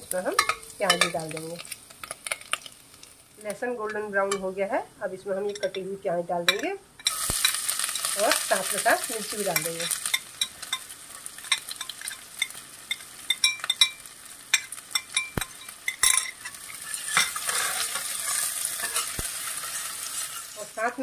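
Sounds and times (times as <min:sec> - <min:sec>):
oil sizzling: 0:00.0 - 0:21.0.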